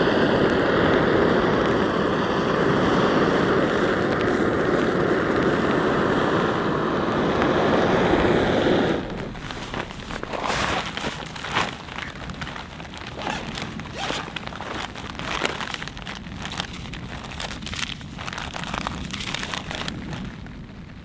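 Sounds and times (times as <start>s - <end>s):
heavy rain drumming on a tarp: 0.0s - 21.0s.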